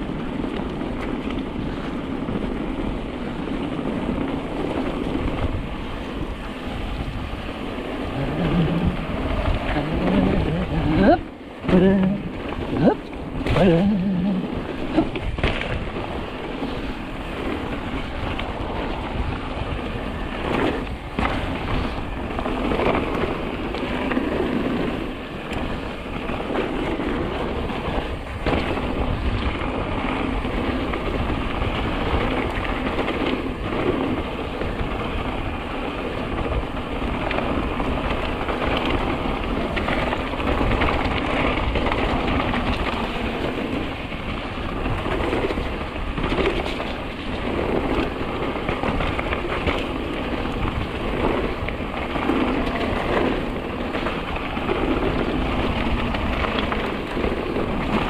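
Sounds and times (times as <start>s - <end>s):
bike knocking and rattling: 0.0s - 58.0s
wind and tyre noise: 0.0s - 58.0s.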